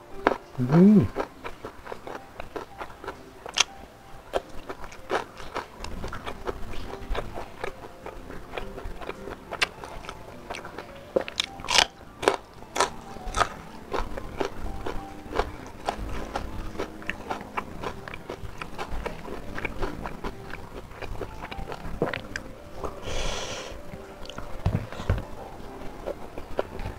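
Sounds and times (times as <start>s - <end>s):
person chewing food: 0.0s - 26.9s.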